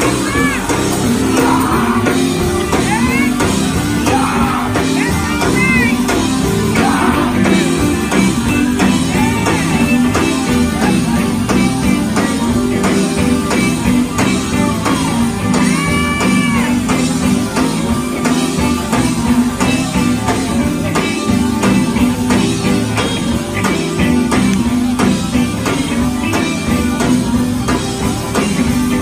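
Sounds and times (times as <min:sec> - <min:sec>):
drum kit beat: 0:00.0 - 0:29.0
electric guitar: 0:00.0 - 0:29.0
keyboard: 0:00.0 - 0:29.0.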